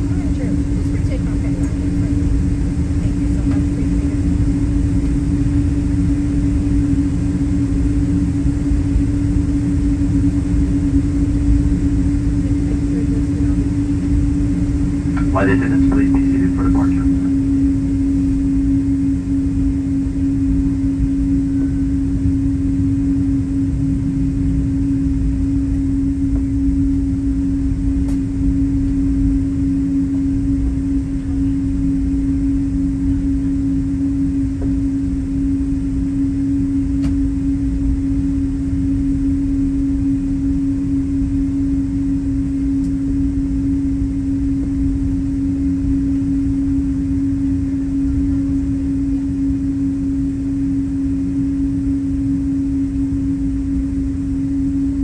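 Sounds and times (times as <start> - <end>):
low uneven rumble: 0.0 - 51.3
jet engines humming: 0.0 - 55.0.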